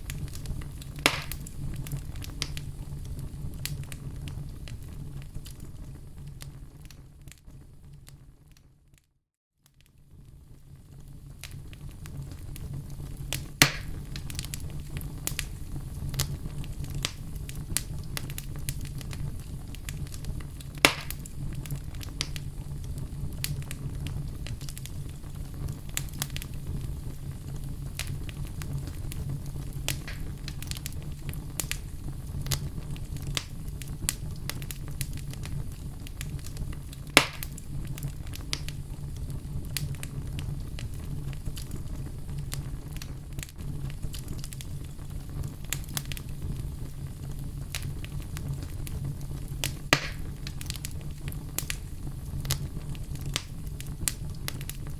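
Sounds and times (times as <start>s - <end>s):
loud fire pops: 0.0s - 8.5s, 10.2s - 54.9s
wood fire crackling: 0.0s - 9.0s, 9.6s - 54.9s.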